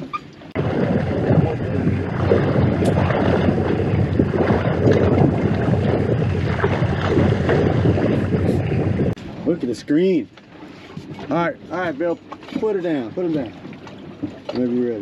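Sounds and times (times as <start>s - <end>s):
rushing wind and water: 0.0s - 15.0s.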